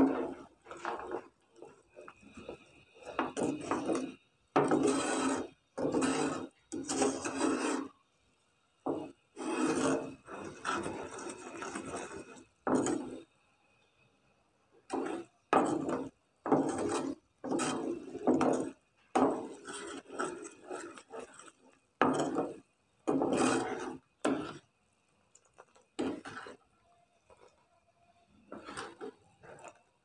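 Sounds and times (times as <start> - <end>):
spoon scraping cooking pan: 0.0 - 8.0, 8.9 - 13.3, 14.8 - 24.7, 25.4 - 27.7, 28.3 - 30.0.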